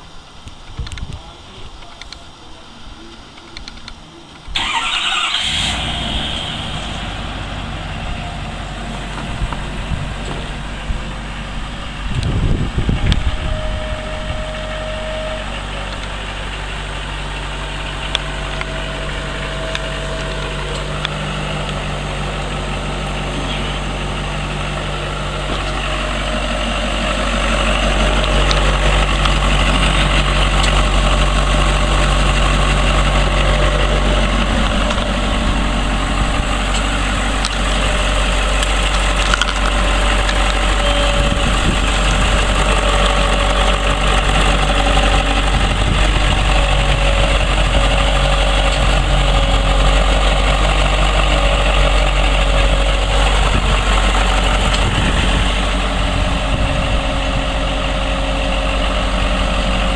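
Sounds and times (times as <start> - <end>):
diesel engine starting and idling: 2.6 - 59.9.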